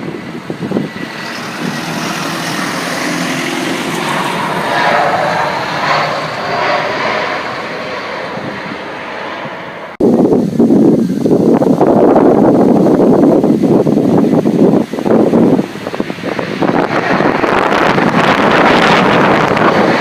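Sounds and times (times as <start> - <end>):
jet airliner landing: 0.0 - 20.0.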